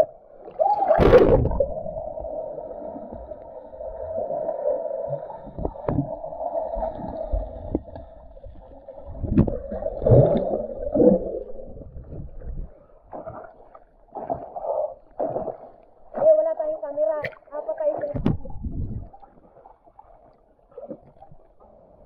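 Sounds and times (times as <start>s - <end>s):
water splashing: 0.0s - 22.0s.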